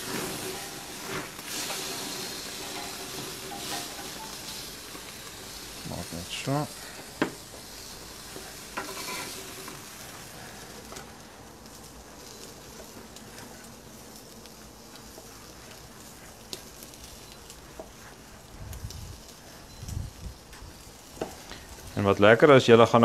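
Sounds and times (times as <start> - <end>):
steak sizzling on a grill: 0.0 - 23.0.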